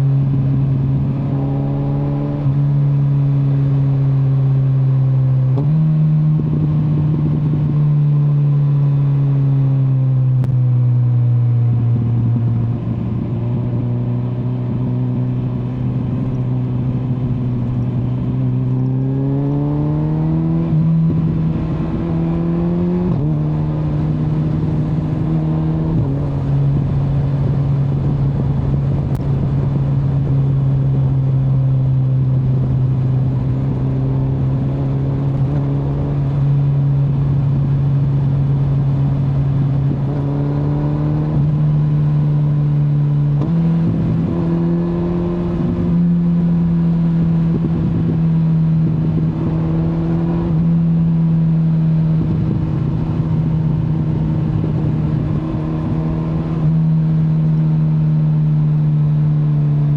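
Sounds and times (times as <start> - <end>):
motorcycle engine revving: 0.0 - 9.7, 10.4 - 59.9.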